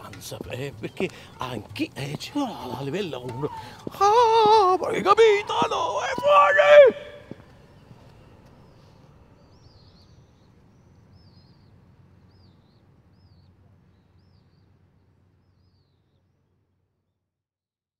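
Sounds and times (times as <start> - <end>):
low outdoor hum: 0.0 - 17.2.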